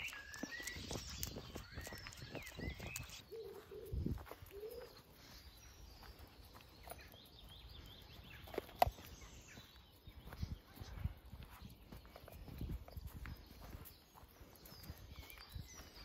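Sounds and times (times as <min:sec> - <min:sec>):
faint birdsong chirps: 0:00.0 - 0:16.0
footsteps on dirt path: 0:00.0 - 0:16.0.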